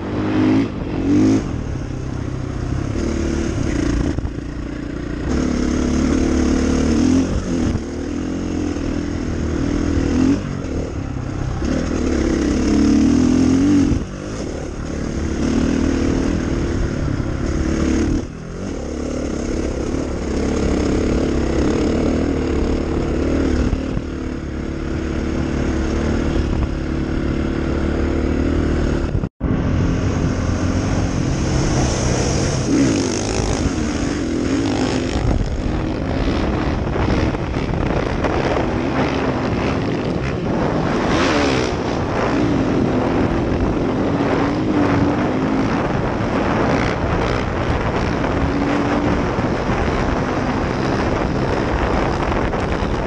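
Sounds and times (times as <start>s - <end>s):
dirt bike engine revving: 0.0s - 53.0s
wind buffeting microphone: 0.0s - 53.0s.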